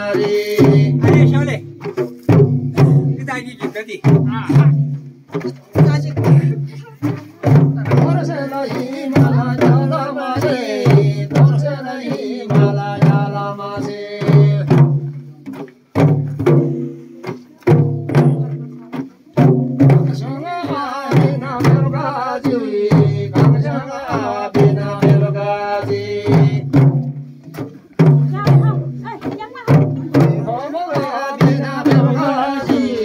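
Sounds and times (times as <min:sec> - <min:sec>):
voices singing: 0:00.0 - 0:01.8, 0:02.8 - 0:15.6, 0:17.2 - 0:33.0
frame drums beaten in rhythm: 0:00.0 - 0:33.0.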